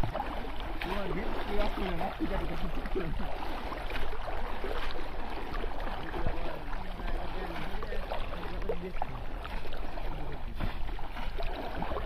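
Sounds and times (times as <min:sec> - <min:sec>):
muddy water splashing and sloshing: 0:00.0 - 0:12.0
sharp splashes: 0:00.0 - 0:12.0.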